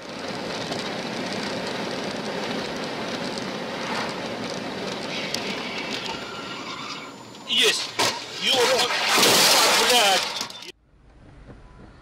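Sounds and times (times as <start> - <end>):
road and tyre noise: 0.0 - 12.0.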